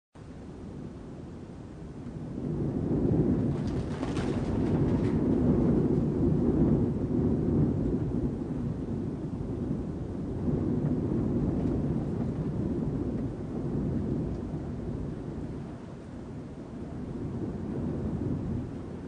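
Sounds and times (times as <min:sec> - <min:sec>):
wind rushing: 0:00.6 - 0:19.0.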